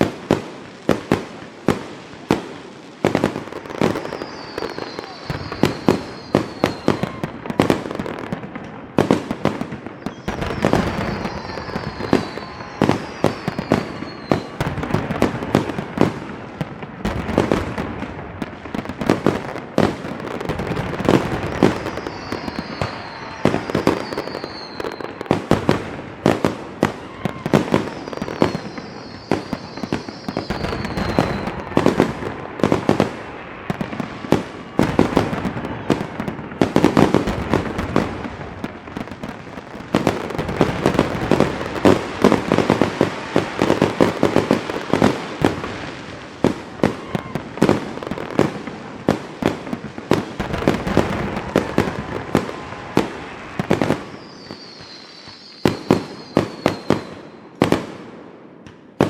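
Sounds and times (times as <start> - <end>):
fireworks banging: 0.0 - 59.0
whistling fireworks: 0.0 - 59.0.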